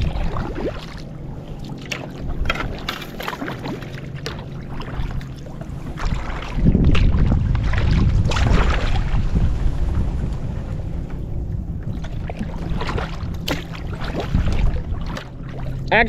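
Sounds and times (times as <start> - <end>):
paddle splashing in water: 0.0 - 16.0
wind rumble on microphone: 0.0 - 16.0.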